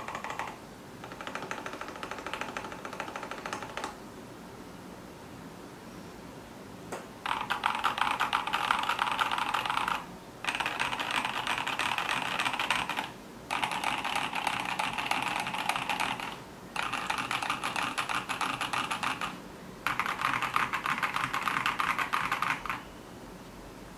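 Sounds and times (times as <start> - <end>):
mechanical keyboard typing: 0.0 - 4.0, 7.2 - 22.8.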